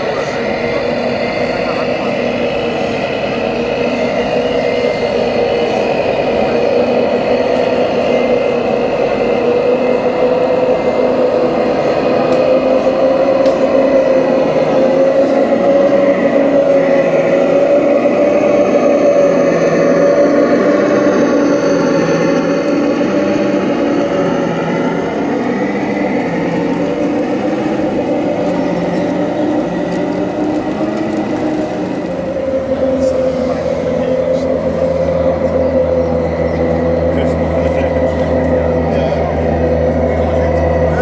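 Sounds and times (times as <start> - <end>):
low pulsing hum: 0.0 - 41.0
model truck mechanical whine: 0.0 - 41.0.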